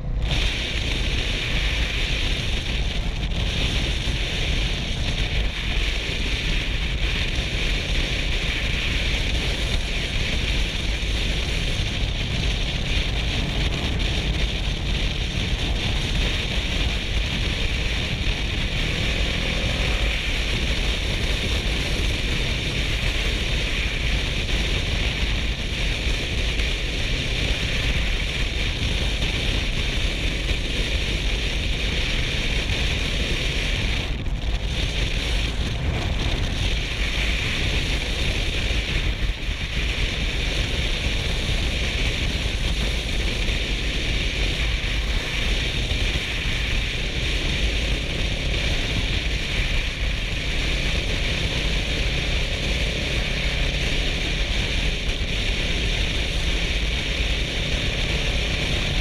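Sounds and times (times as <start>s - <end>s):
motorcycle engine droning: 0.0s - 59.0s
road noise: 0.0s - 59.0s
wind rush on microphone: 0.0s - 59.0s.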